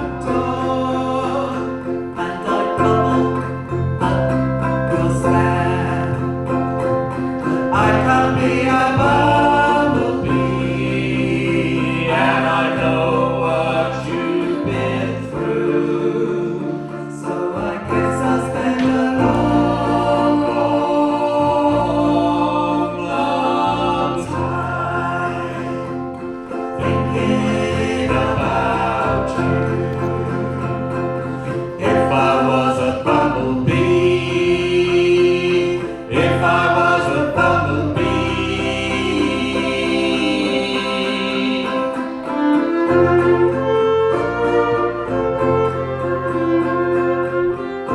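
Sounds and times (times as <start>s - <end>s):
band playing low held notes: 0.0s - 47.9s
voices singing wordless harmony: 0.0s - 47.9s.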